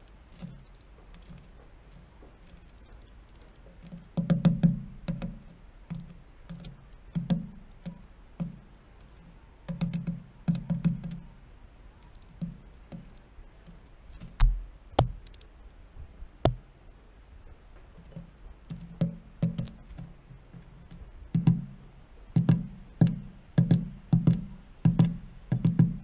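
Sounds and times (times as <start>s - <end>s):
bird pecking on wooden board: 0.0s - 15.5s, 17.8s - 26.0s.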